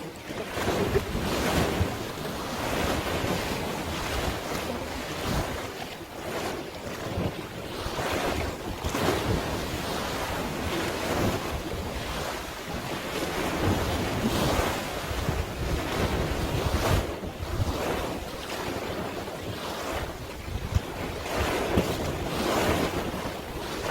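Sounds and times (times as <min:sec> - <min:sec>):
sea waves washing: 0:00.0 - 0:23.9
wind buffeting microphone: 0:00.0 - 0:23.9.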